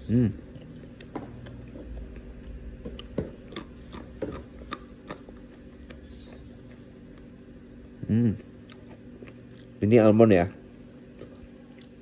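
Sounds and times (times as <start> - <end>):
almonds being chewed: 0.0 - 12.0.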